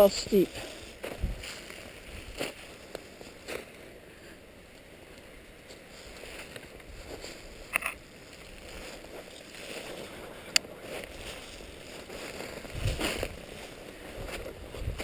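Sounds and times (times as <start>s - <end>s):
footsteps crunching through snow: 0.0s - 3.9s, 5.6s - 15.0s.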